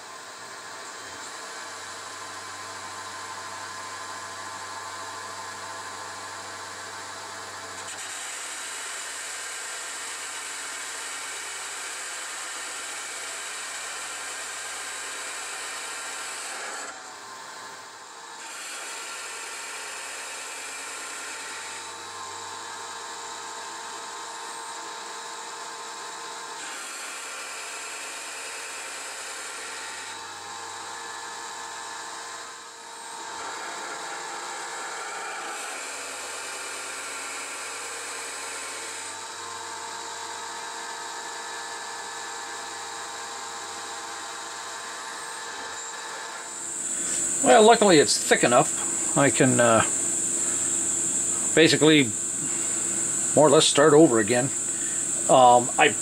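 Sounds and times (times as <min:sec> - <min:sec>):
metal lathe whining: 0:00.2 - 0:56.0.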